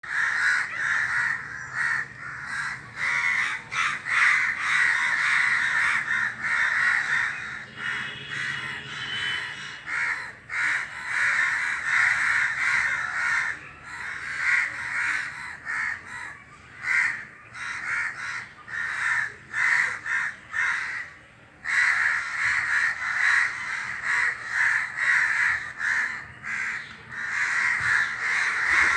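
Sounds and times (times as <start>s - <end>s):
crows cawing: 0.0s - 28.9s.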